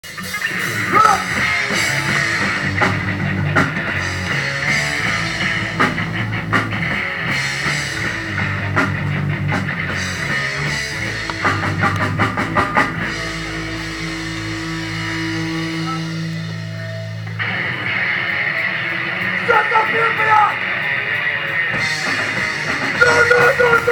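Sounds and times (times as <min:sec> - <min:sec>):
rock band playing live: 0:00.0 - 0:23.9.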